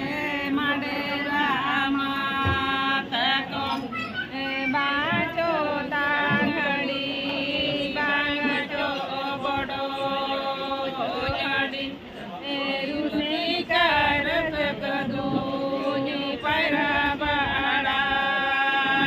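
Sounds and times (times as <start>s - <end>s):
women singing unaccompanied: 0.0s - 19.0s.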